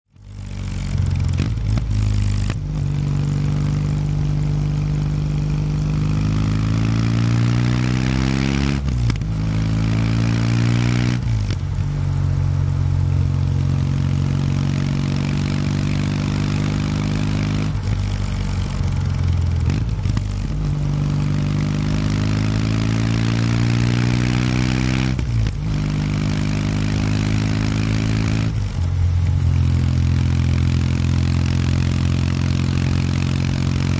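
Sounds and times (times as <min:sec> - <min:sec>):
motorcycle engine revving under way: 0:00.1 - 0:33.9.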